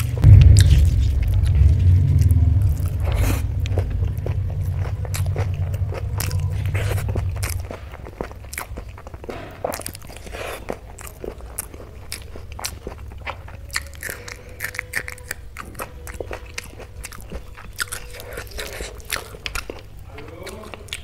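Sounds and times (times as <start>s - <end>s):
wet chewing with mouth clicks: 0.0s - 21.0s.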